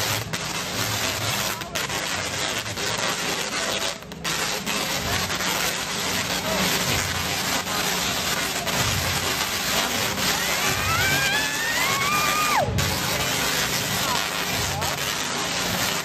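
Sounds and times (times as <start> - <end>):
tesla coil crackling buzz: 0.0 - 16.0.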